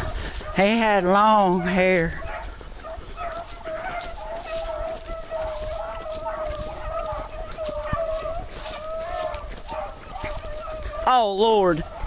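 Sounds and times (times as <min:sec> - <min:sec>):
footsteps rustling through dry grass: 0:00.0 - 0:12.0
hounds baying: 0:00.0 - 0:12.0.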